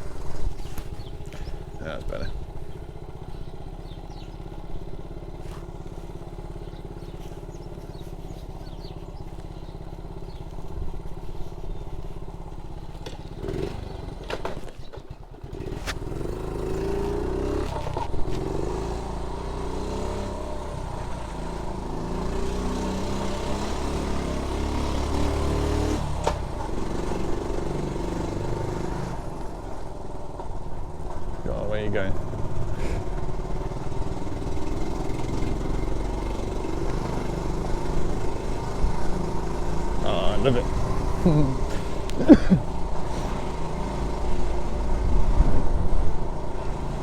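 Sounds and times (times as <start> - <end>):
motorbike engine idling and revving: 0.0 - 47.0.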